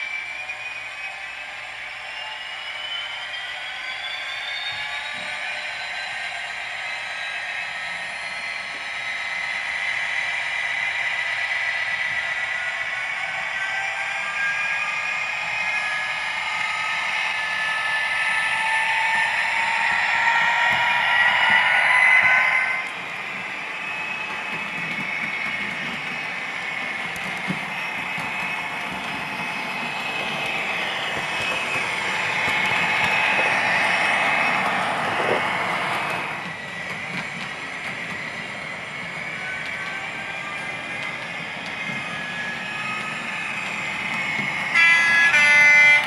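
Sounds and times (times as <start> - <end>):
model train diesel engine sound: 0.0 - 46.0.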